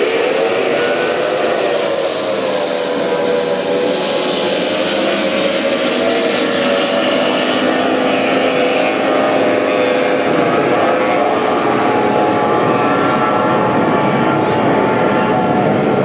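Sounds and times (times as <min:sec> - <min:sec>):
racing powerboat engines droning: 0:00.0 - 0:16.0.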